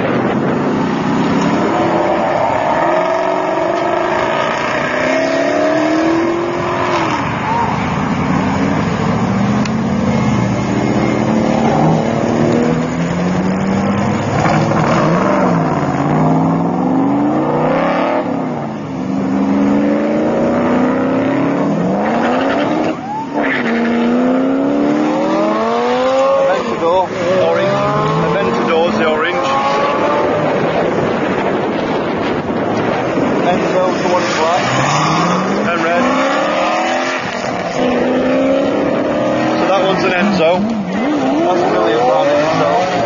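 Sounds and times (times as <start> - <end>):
sports car engines accelerating: 0.0 - 43.0.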